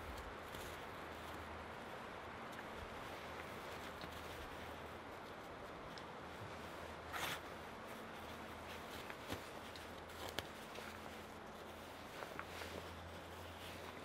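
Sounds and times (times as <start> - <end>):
cord rasping and rustling: 0.0 - 14.0.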